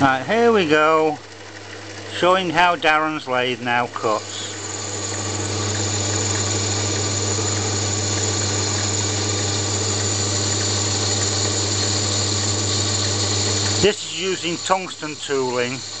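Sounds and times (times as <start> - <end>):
lathe motor humming: 0.0 - 16.0.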